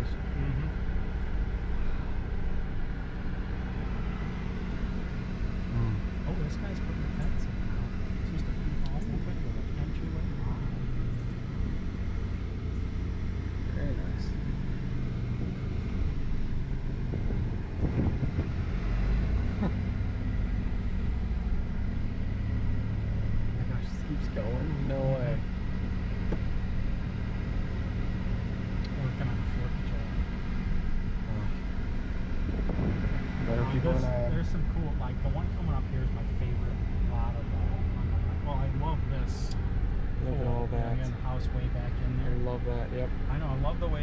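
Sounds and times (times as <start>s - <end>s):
car driving interior rumble: 0.0s - 44.0s.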